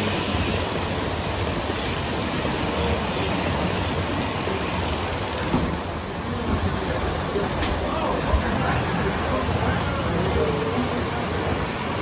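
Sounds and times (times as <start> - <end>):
metal wheels rolling on rail: 0.0 - 12.0.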